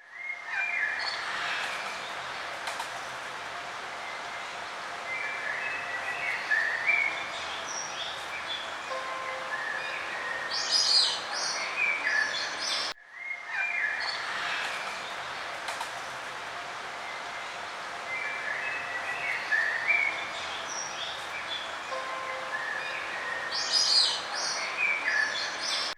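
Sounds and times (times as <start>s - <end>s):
steady background hiss: 0.0s - 25.9s
songbirds chirping and trilling: 0.1s - 25.9s.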